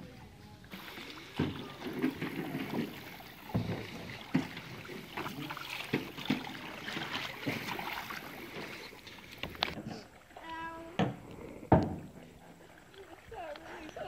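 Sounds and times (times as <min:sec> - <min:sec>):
paddles splashing in water: 0:00.7 - 0:14.0.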